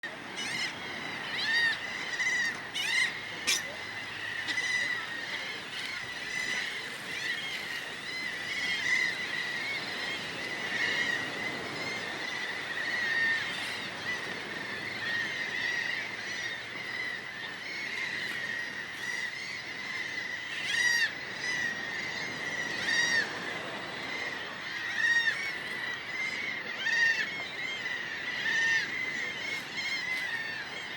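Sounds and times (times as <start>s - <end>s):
flock of birds calling: 0.0s - 30.9s.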